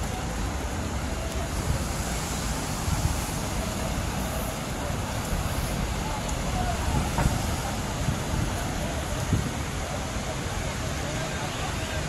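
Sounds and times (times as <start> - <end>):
faint distant voices: 0.0 - 12.0
low beach noise wash: 0.0 - 12.0.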